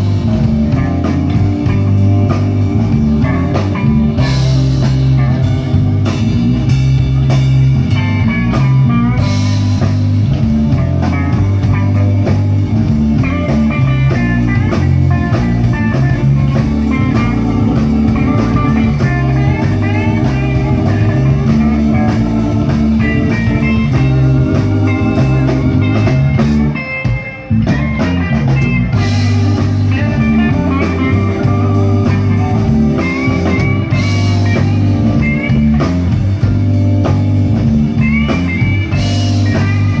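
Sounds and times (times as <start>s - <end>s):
bass guitar: 0.0s - 40.0s
drums: 0.0s - 40.0s
lead electric guitar solo: 0.0s - 40.0s.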